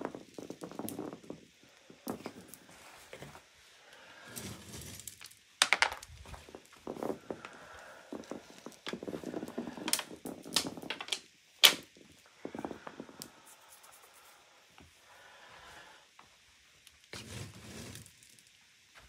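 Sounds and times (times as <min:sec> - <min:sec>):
rustling and handling noise: 0:00.0 - 0:15.0, 0:16.9 - 0:19.0.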